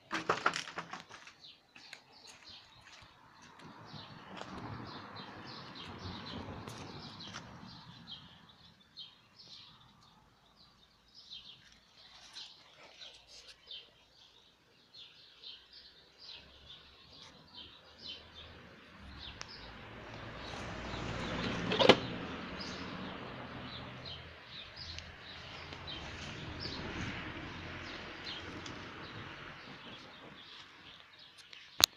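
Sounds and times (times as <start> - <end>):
small birds chirping: 1.1 - 31.9.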